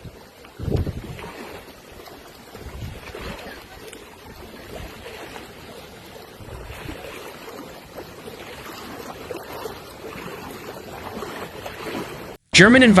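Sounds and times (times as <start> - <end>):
small water splashes: 0.0 - 12.4
water rushing: 0.0 - 13.0.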